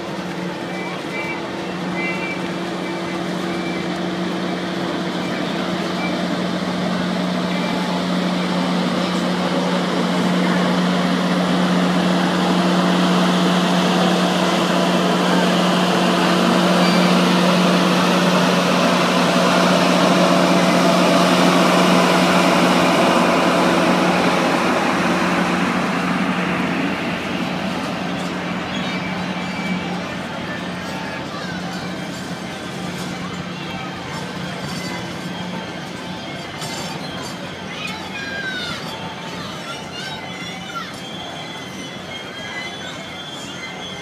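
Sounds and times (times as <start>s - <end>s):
train rushing past: 0.0s - 44.0s.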